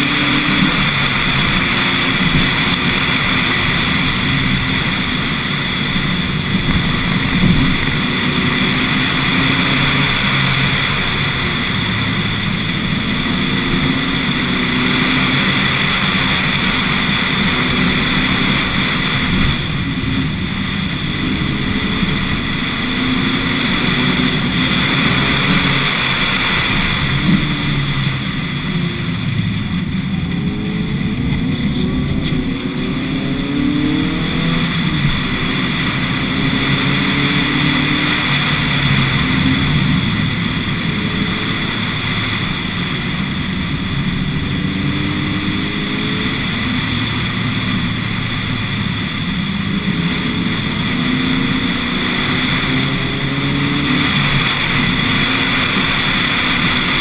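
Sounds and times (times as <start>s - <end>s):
car engine revving: 0.0s - 57.0s
constant rush of noise: 0.0s - 57.0s.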